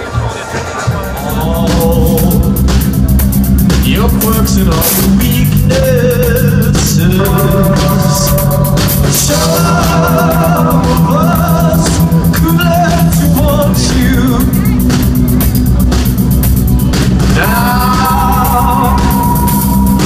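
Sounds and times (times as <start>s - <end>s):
drum kit with cymbals: 0.0s - 20.0s
person singing: 0.9s - 16.2s, 16.9s - 20.0s.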